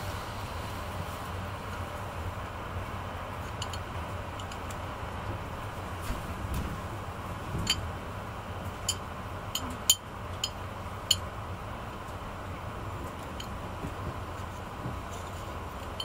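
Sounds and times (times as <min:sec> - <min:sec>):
faint steady hum: 0:00.0 - 0:16.0
train carriage rumble: 0:00.0 - 0:16.0.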